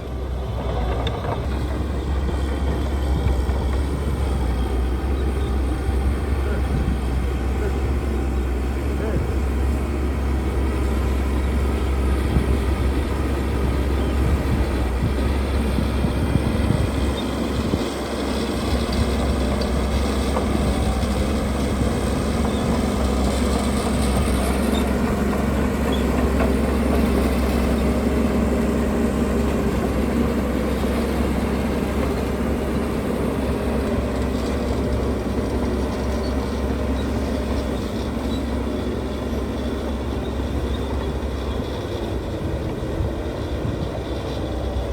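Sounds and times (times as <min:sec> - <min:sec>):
heavy diesel machinery rumbling: 0:00.0 - 0:44.9.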